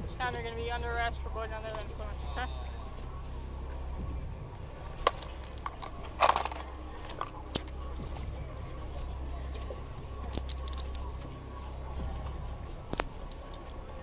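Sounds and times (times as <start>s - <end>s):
low steady rumble: 0.0s - 14.0s
ratchet clicks: 0.0s - 14.0s.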